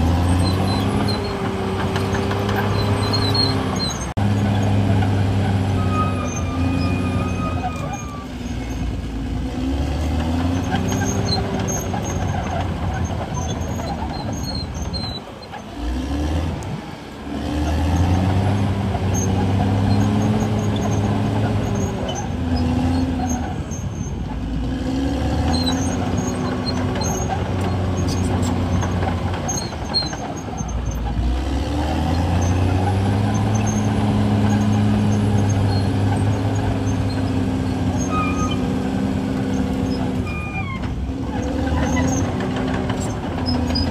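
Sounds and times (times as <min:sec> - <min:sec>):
bulldozer diesel engine working: 0:00.0 - 0:43.9.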